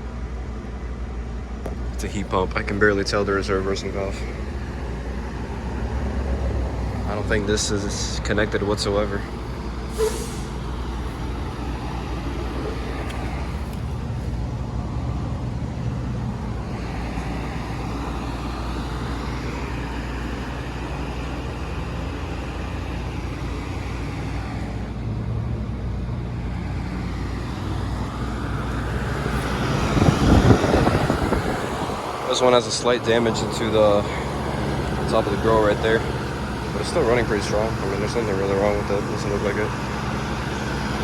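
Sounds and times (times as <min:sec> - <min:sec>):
compressor hum: 0:00.0 - 0:41.0
condenser fan rushing: 0:00.0 - 0:41.0.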